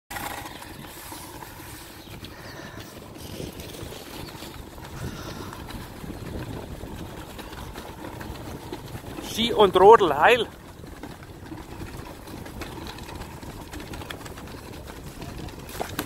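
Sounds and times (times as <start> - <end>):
sled runners scraping snow: 0.1 - 16.0
wind on microphone: 0.2 - 16.0.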